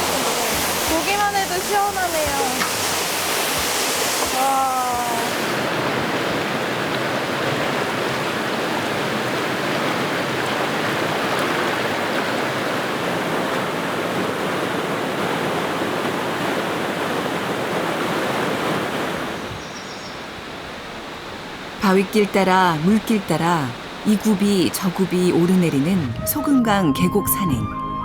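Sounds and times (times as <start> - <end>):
water rushing in stream: 0.0 - 26.8.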